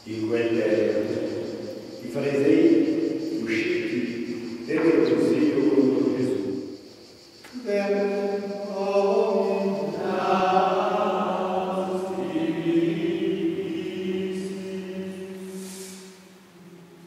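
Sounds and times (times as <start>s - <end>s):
man chanting plainchant: 0.0s - 6.6s, 7.5s - 16.1s.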